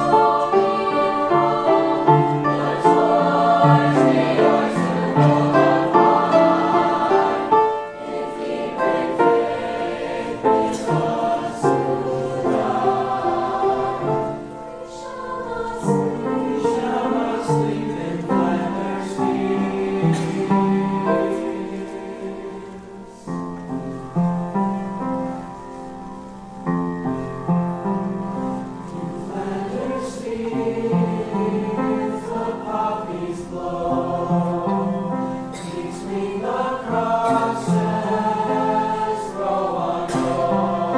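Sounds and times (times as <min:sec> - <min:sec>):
mixed choir singing: 0:00.0 - 0:25.6, 0:27.8 - 0:40.9.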